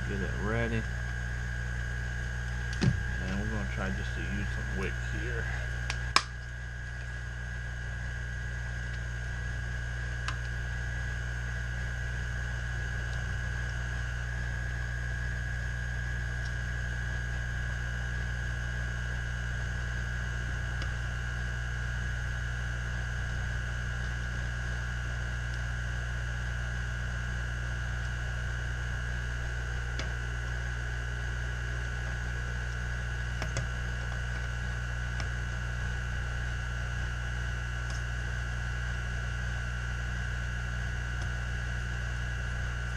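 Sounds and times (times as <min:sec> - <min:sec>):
electrical mains hum: 0:00.0 - 0:42.9
high whine: 0:00.0 - 0:42.9.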